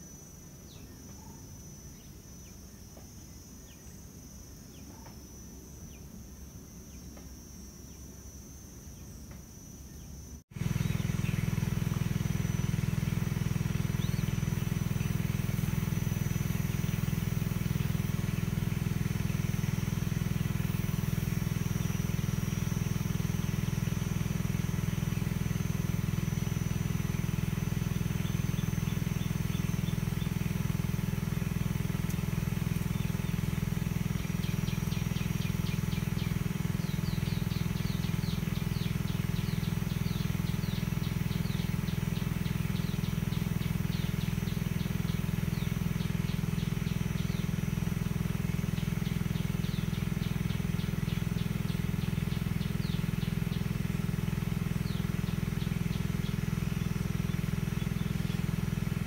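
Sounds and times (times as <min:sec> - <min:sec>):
faint bird chirps: 0:00.0 - 0:30.6, 0:31.8 - 0:47.8, 0:48.6 - 0:58.6
high insect drone: 0:00.0 - 0:59.0.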